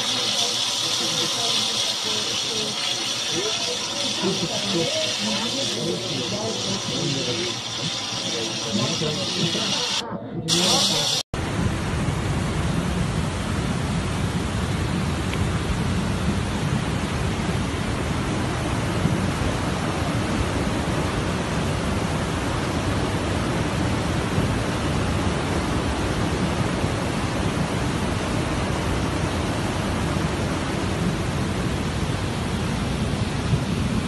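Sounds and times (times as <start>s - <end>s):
mudflow torrent rushing: 0.0s - 34.0s.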